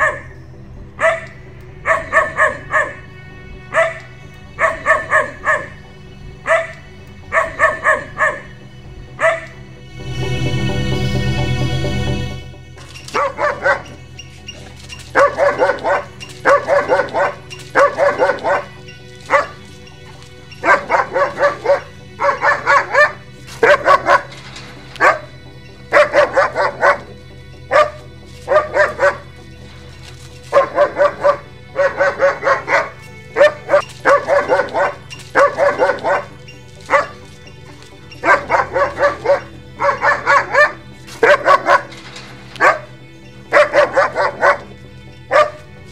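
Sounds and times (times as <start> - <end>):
dog barking: 0.0 - 9.6, 12.8 - 45.9
low background drone: 0.0 - 45.9.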